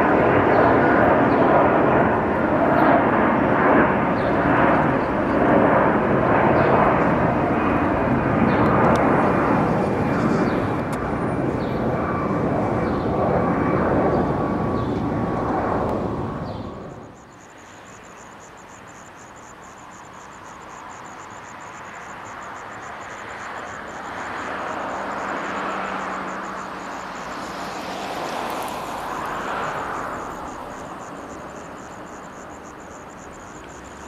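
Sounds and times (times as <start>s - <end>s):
faint jet whine: 0.0s - 34.0s
jet plane rumble overhead: 0.0s - 34.0s.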